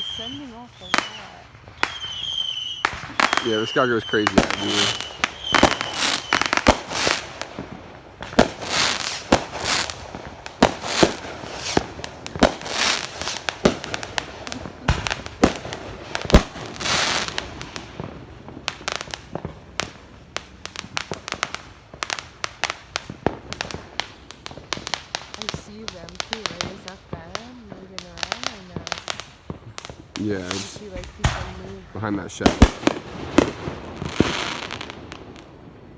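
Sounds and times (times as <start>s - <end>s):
fireworks bangs: 0.0s - 35.9s
fireworks crackling fizz: 0.0s - 35.9s
rapid-fire small pops: 0.2s - 35.6s.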